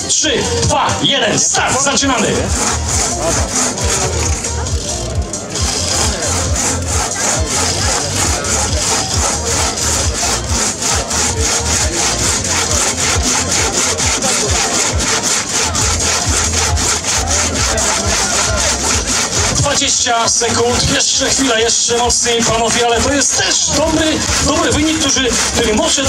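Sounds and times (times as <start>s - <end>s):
crosscut saw cutting log: 0.0s - 26.0s.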